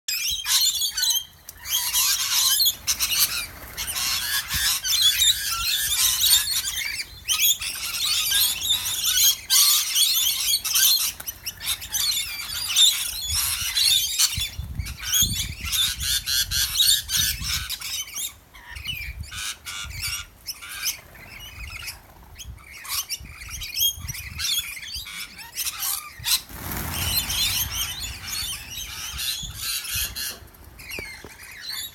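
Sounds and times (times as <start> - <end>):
lorikeets screeching and chattering: 0.1 - 31.9.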